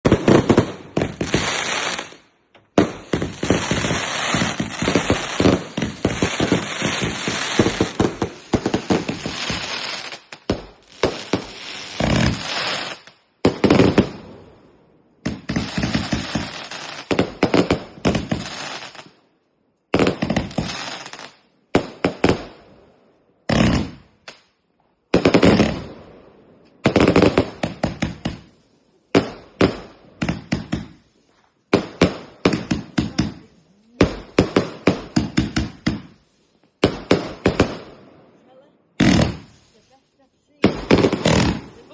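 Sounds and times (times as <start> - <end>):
fireworks cracking and banging: 0.0 - 14.3, 15.2 - 19.2, 19.9 - 22.6, 23.5 - 24.5, 25.1 - 26.0, 26.7 - 28.6, 29.2 - 31.1, 31.7 - 38.0, 39.0 - 41.9.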